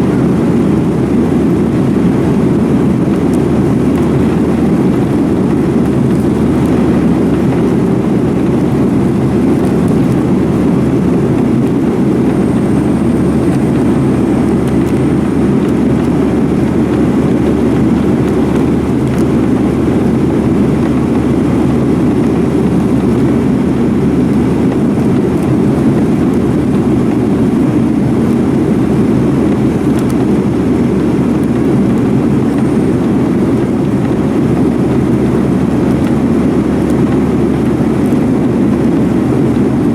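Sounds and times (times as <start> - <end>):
jet engine cabin rush: 0.0 - 39.9.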